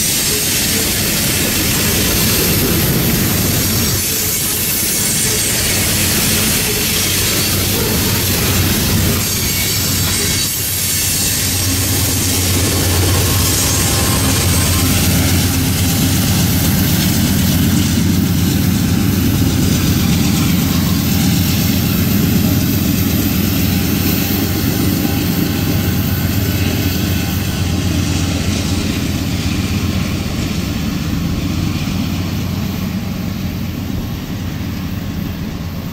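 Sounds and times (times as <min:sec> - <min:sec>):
diesel locomotive engine: 0:00.0 - 0:35.9
train cars rumbling on rails: 0:00.0 - 0:35.9.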